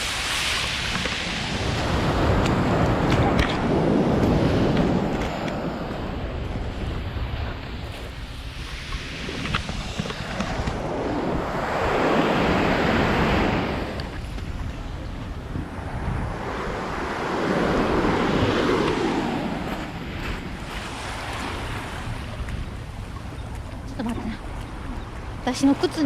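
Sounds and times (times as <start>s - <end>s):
waves breaking on shore: 0.0s - 26.0s
wind buffeting microphone: 0.0s - 26.0s.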